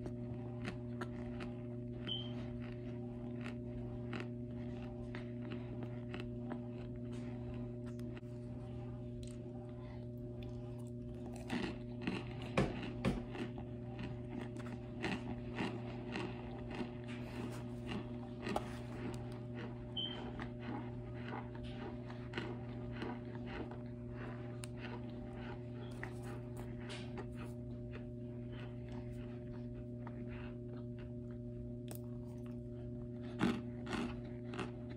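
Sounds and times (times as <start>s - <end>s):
crisp chewing crunches: 0.0s - 34.9s
low electrical hum: 0.0s - 34.9s.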